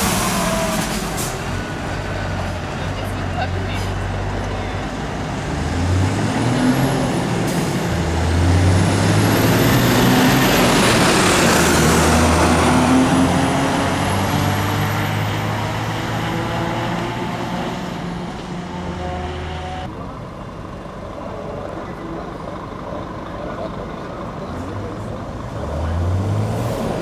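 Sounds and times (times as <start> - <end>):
fire engine driving past: 0.0 - 27.0.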